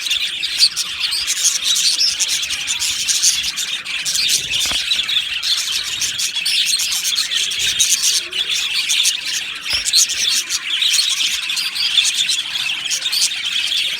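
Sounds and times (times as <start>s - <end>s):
budgerigars chattering and chirping: 0.0s - 13.9s.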